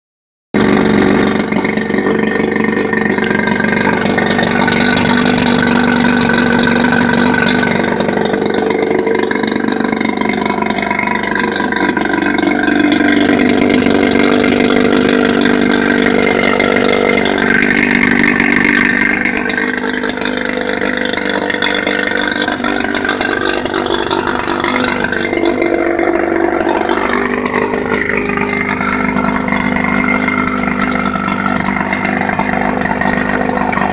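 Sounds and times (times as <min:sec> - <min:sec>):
outboard motor running: 0:00.5 - 0:33.9.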